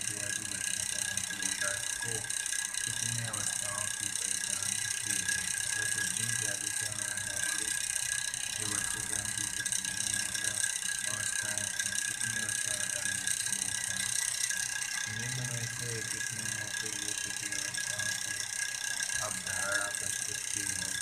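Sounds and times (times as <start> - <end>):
high-pitched tones: 0.0 - 18.5, 19.1 - 21.0
mechanical buzz: 0.0 - 21.0.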